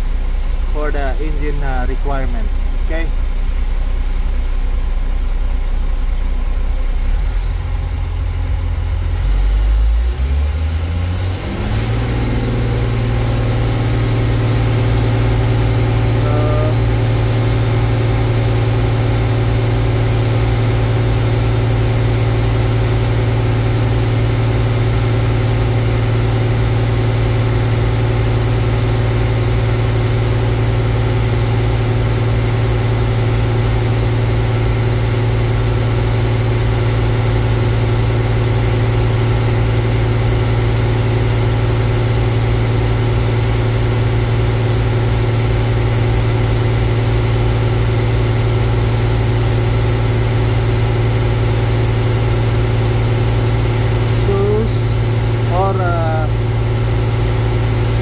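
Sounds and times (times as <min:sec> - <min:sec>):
steady high whine: 0:00.0 - 0:10.0, 0:11.2 - 0:58.0
diesel engine revving to high idle: 0:00.0 - 0:58.0.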